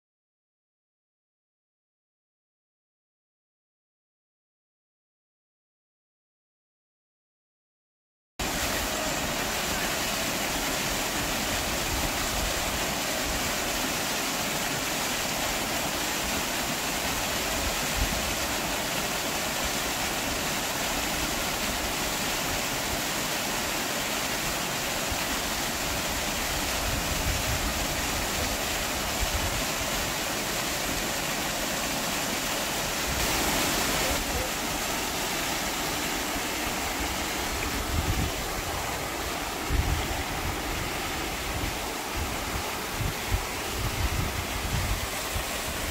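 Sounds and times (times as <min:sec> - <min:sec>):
waterfall rushing into pool: 0:08.4 - 0:45.9.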